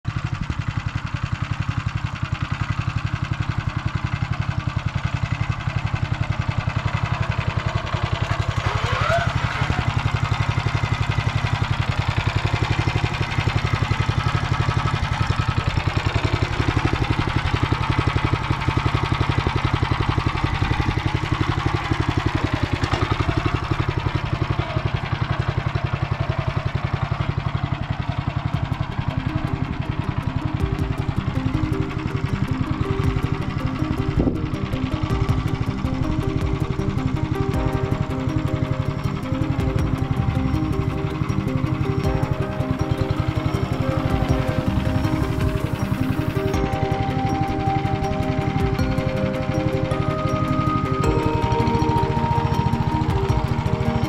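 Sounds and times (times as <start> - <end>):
walk-behind tractor engine running: 0.0 - 54.0.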